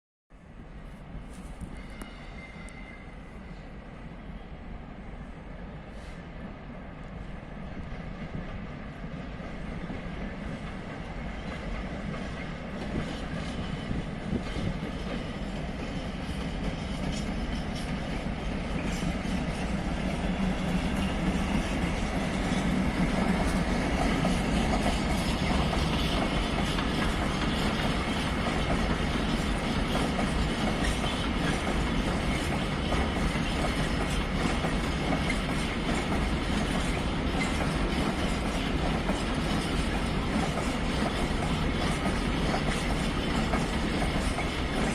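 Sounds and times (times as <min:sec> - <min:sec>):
train running on track: 0:00.3 - 0:44.9.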